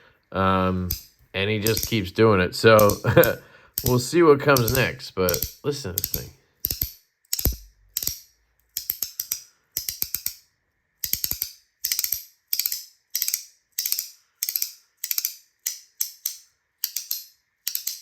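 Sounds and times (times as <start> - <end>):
sharp snappy magnetic clicks: 0.8 - 2.1, 2.7 - 10.4, 11.0 - 18.0.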